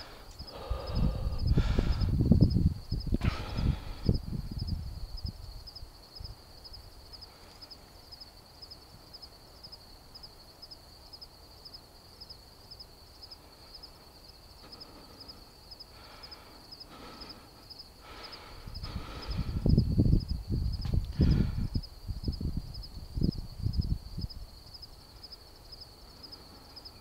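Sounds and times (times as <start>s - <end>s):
low wind rumble: 0.0s - 9.8s, 12.9s - 27.0s
insect chirping: 0.0s - 27.0s.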